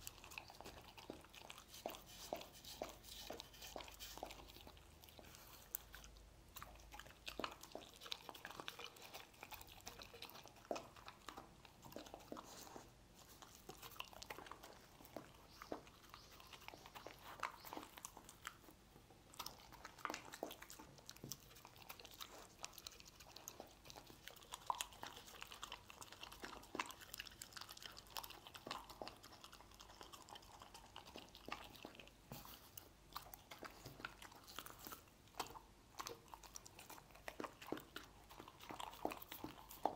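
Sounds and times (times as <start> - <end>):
dog chewing and crunching: 0.0 - 39.9.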